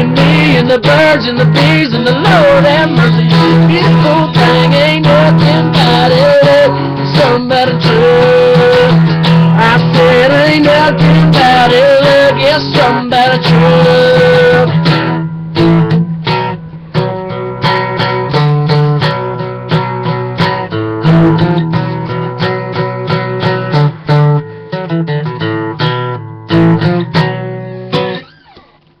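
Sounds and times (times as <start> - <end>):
acoustic guitar strummed chords: 0.0 - 28.9.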